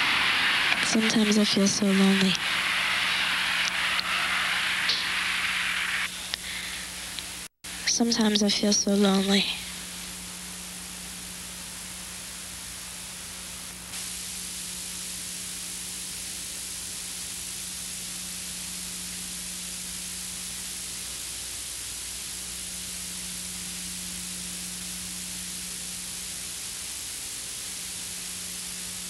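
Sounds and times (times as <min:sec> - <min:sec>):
static-like hiss: 0:00.0 - 0:29.0
faint low hum: 0:00.7 - 0:04.1, 0:04.8 - 0:29.0.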